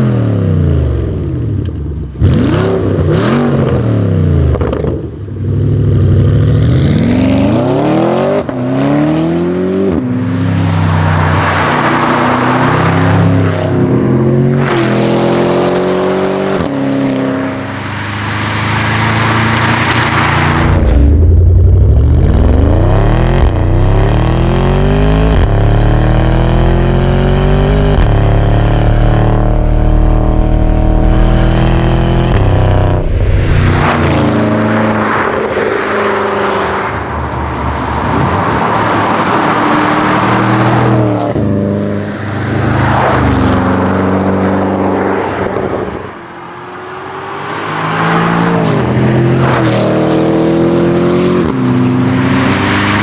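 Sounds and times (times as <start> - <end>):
wind and tyre noise: 0.0 - 53.0
car engine accelerating hard: 6.2 - 53.0.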